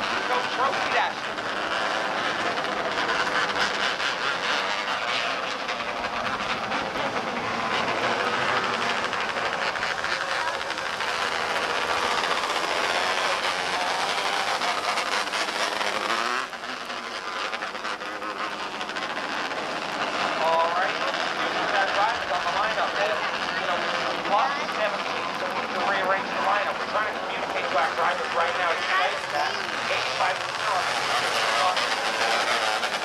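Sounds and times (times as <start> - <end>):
race car engines droning: 0.0 - 33.0.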